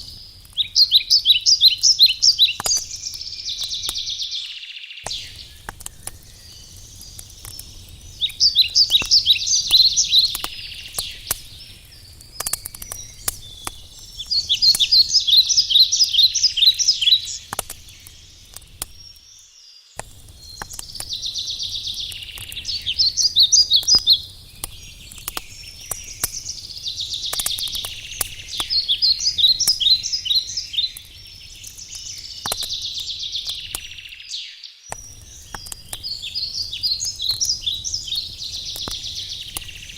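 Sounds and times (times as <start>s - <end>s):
campfire crackling: 0.0s - 34.3s, 34.9s - 39.9s
songbird singing: 0.0s - 39.9s.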